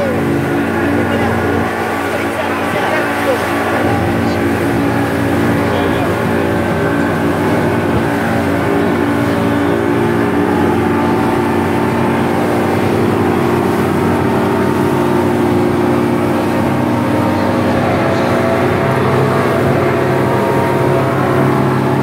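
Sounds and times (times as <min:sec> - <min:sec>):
outboard motor drone: 0:00.0 - 0:22.0
rushing water and wind: 0:00.0 - 0:22.0.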